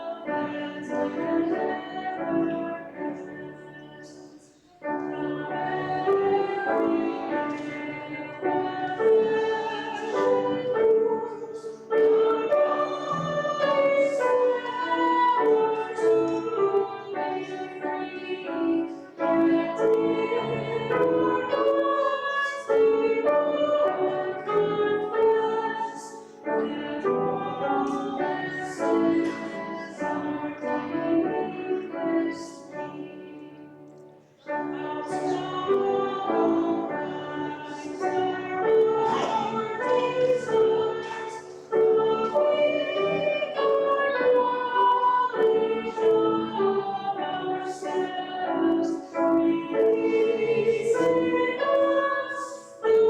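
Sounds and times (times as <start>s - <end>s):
church singing: 0.0s - 53.0s.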